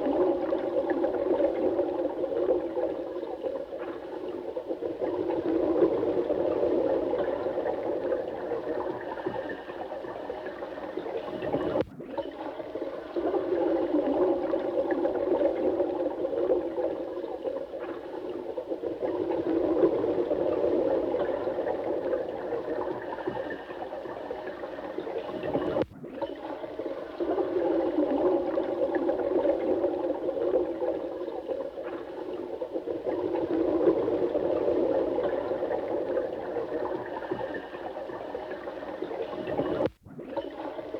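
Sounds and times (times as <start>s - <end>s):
running water gurgling: 0.0s - 40.9s.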